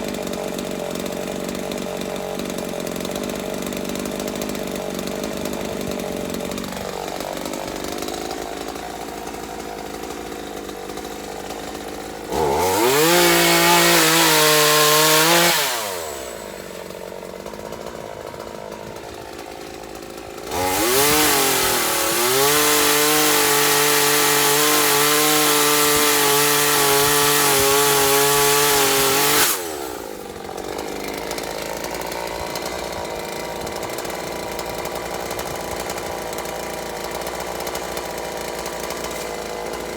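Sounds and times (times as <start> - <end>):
chainsaw engine idling and revving: 0.0 - 39.9.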